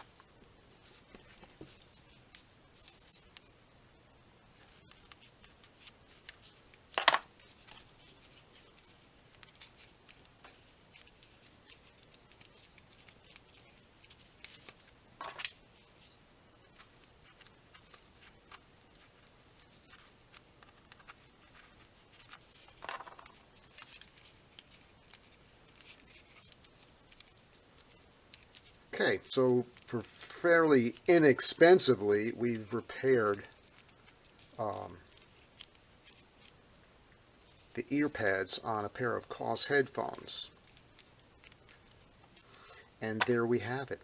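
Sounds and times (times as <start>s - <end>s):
rustling and scraping of fiber fill: 4.5s - 43.9s.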